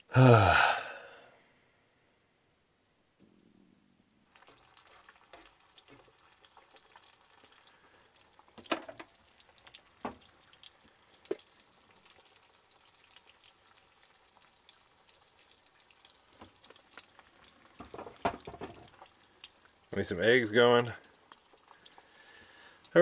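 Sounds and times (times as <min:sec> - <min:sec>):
eggs sizzling in a skillet: 0:04.2 - 0:23.0.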